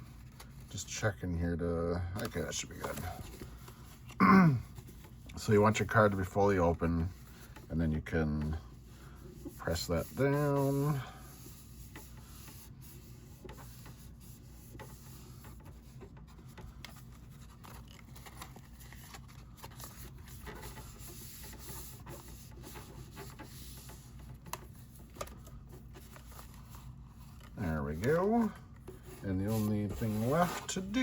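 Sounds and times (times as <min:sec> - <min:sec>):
fingers rubbing paper: 0:05.5 - 0:31.0.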